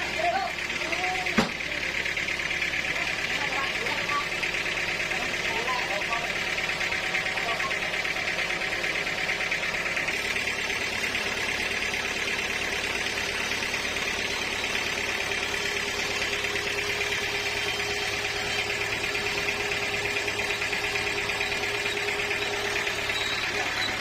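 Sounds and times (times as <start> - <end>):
sawmill machinery running: 0.0 - 24.0.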